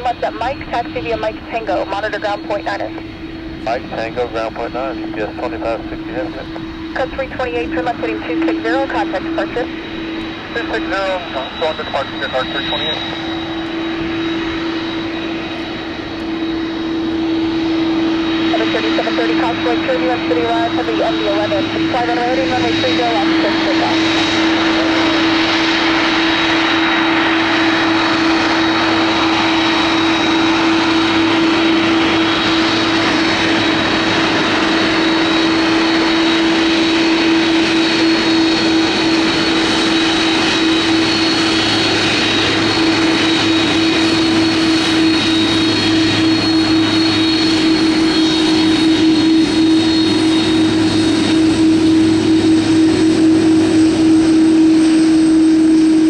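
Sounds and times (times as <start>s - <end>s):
jet airliner engines droning: 0.0s - 56.0s.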